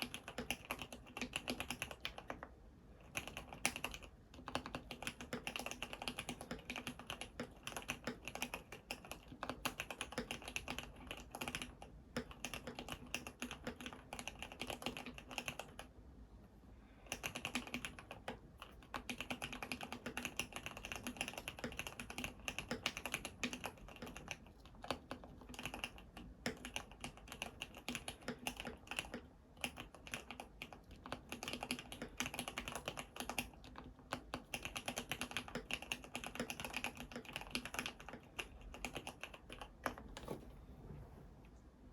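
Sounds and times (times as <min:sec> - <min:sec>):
typing on mechanical keyboard: 0:00.0 - 0:16.0, 0:17.1 - 0:40.3.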